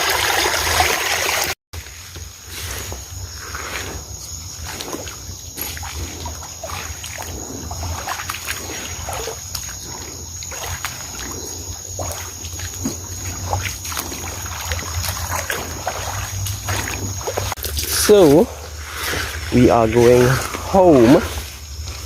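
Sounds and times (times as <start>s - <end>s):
stream water splashing: 0.0s - 22.0s
night insects chirring: 0.1s - 22.0s.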